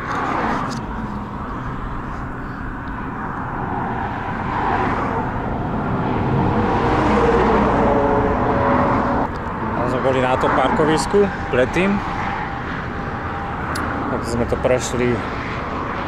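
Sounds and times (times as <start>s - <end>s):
highway traffic rushing: 0.0s - 16.0s.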